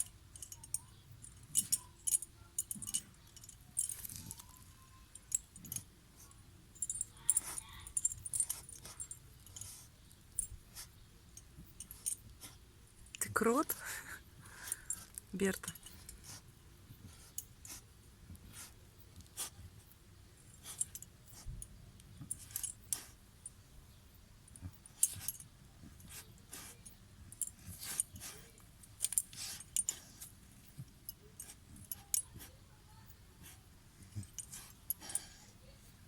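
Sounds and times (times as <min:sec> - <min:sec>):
pet digging and scratching: 0:00.0 - 0:13.8, 0:14.5 - 0:23.2, 0:24.5 - 0:36.0.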